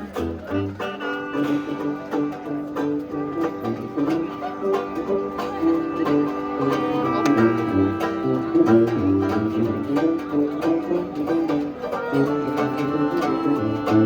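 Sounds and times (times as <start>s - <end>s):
jazz band playing: 0.0s - 14.0s
tuba bass line: 0.0s - 14.0s.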